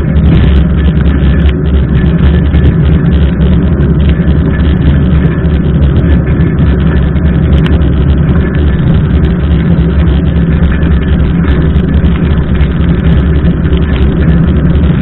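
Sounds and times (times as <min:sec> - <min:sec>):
raindrops tapping on camera: 0:00.0 - 0:15.0
wind rumble on microphone: 0:00.0 - 0:15.0.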